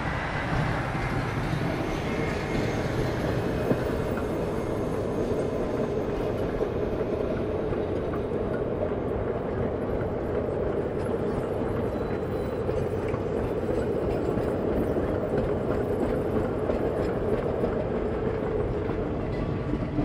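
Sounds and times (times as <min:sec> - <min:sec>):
steel wheels rumbling on rails: 0:00.0 - 0:20.0.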